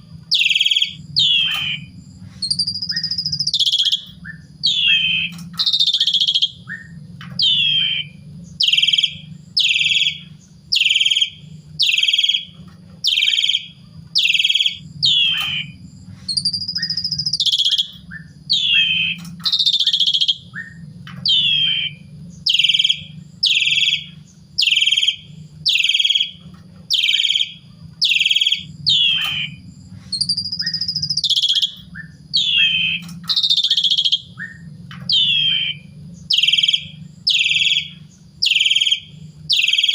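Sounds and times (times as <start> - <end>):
starling calling harsh notes: 0.0 - 39.9
steady low hum: 0.0 - 39.9
starling whistle rising and falling: 0.3 - 15.8, 16.4 - 29.6, 30.2 - 39.9.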